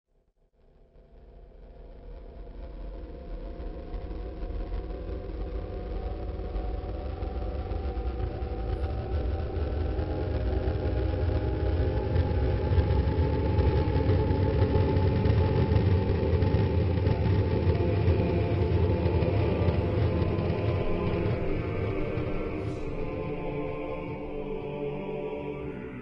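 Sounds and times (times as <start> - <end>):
engine-like mechanical rumble: 0.8 - 25.4
faint rising whining tones: 1.3 - 26.0.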